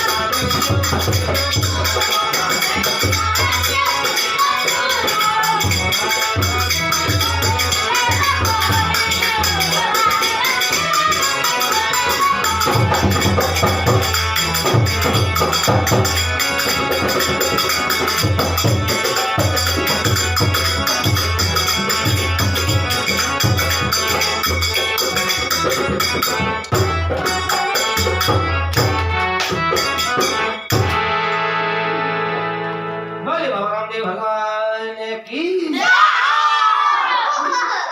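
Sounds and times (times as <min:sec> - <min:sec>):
high rattling percussion: 0:00.0 - 0:31.0
devotional music with steady beat: 0:00.0 - 0:34.9.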